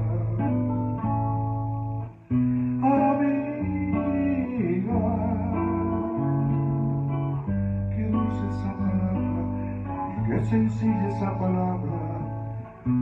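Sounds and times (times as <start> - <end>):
bass line: 0.0 - 13.0
guitar backing music: 0.0 - 13.0.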